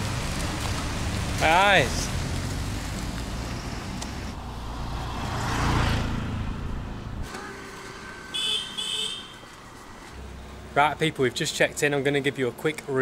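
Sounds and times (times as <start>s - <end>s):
vehicle passing by: 0.0s - 11.1s.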